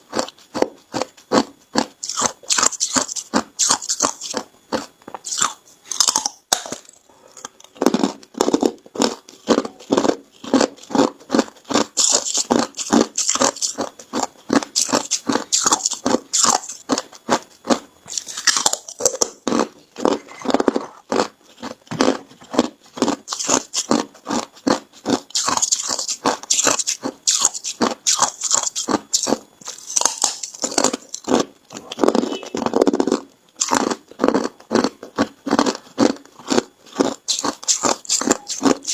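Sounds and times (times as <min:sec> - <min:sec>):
ice crunching between teeth: 0:00.1 - 0:38.9.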